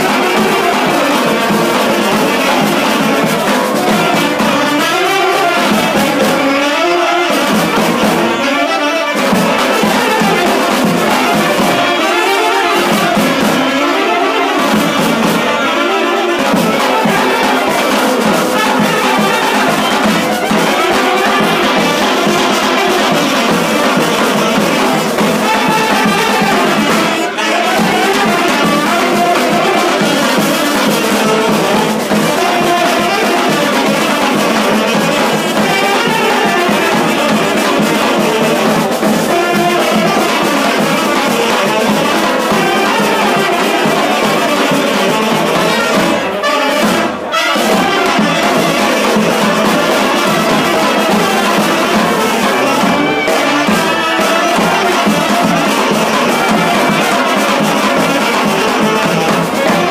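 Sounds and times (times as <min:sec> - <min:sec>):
saxophones: 0:00.0 - 0:59.9
trombones: 0:00.0 - 0:59.9
trumpets: 0:00.0 - 0:59.9.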